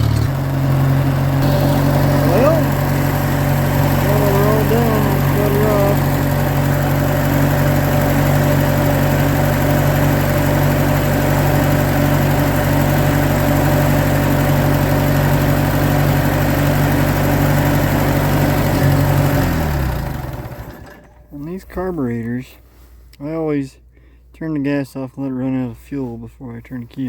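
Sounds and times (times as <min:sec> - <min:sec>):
tractor engine idling: 0:00.0 - 0:22.2.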